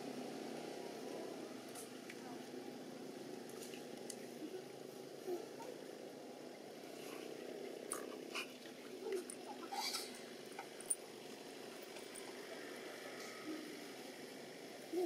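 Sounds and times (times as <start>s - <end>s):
low background murmur: 0.0s - 15.0s.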